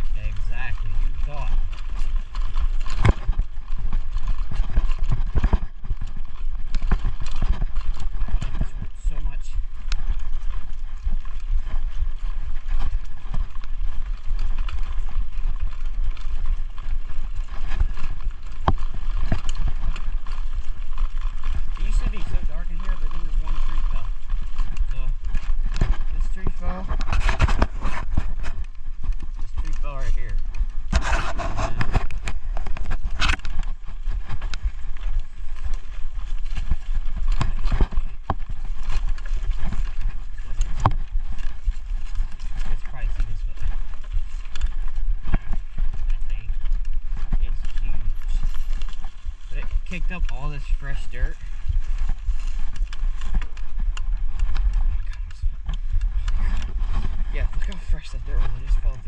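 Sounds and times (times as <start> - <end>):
bike knocks and rattles: 0.0 - 59.0
mountain bike riding rumble: 0.0 - 59.0.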